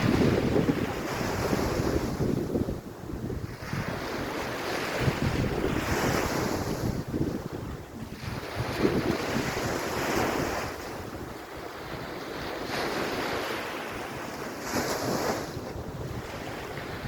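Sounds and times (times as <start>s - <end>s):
waves washing on a beach: 0.0s - 17.0s
wind buffeting microphone: 0.0s - 17.0s.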